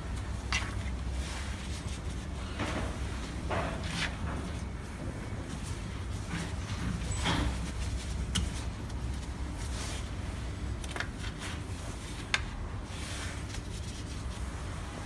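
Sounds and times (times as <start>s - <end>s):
steady low hum: 0.0s - 15.0s
soft rubbing and sliding: 0.3s - 15.0s.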